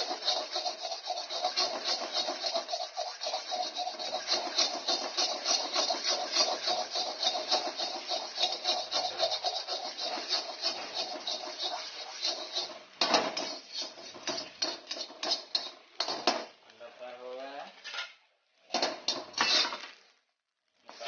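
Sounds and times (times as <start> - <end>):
metal spatula scraping a pan: 0.0 - 16.5, 17.8 - 18.2, 18.8 - 20.0
eggs frying: 0.0 - 16.7, 18.5 - 21.0.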